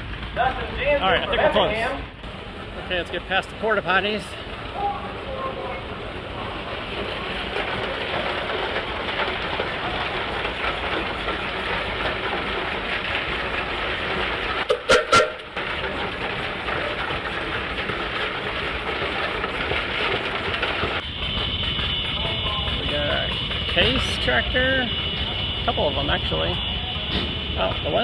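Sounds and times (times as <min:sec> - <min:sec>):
steam engine mechanical clatter: 0:00.0 - 0:28.0.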